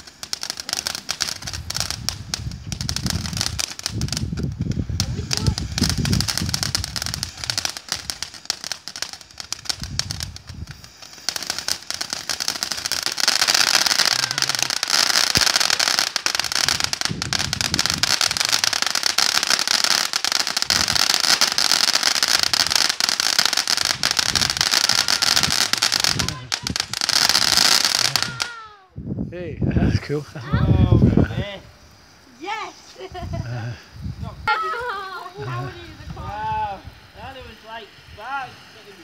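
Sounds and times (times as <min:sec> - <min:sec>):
ground firework crackling: 0:00.0 - 0:39.0.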